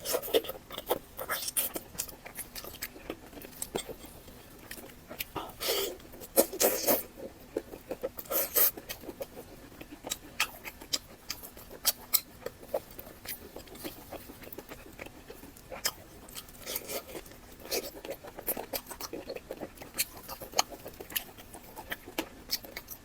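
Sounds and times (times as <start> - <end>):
chewing mouth clicks and smacks: 0.0 - 23.0.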